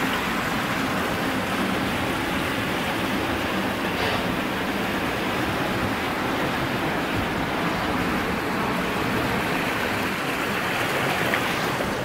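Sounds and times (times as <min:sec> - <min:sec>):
river water rushing against hull: 0:00.0 - 0:12.0.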